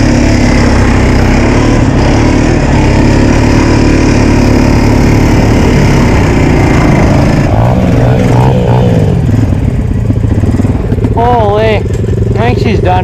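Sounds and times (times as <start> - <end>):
motorcycle engine running hard: 0.0 - 13.0.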